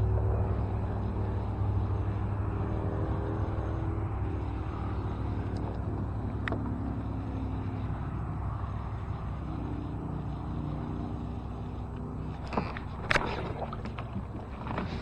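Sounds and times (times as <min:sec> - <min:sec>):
motor engine droning hum: 0:00.0 - 0:15.0.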